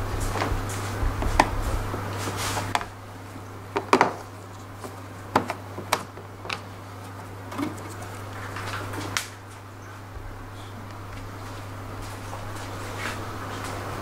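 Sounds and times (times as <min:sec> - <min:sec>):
low hum: 0:00.0 - 0:04.6, 0:06.7 - 0:14.0.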